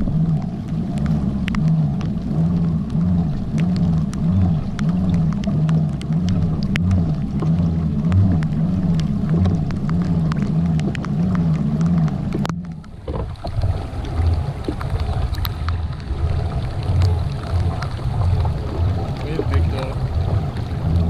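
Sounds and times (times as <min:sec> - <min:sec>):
rain ticking on camera: 0:00.0 - 0:21.0.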